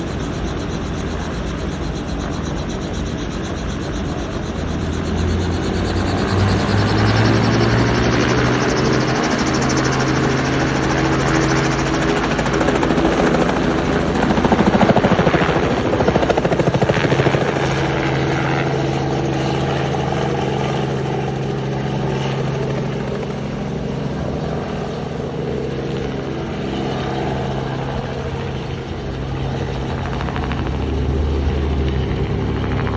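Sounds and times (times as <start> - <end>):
helicopter rotor chop: 0.0 - 32.9.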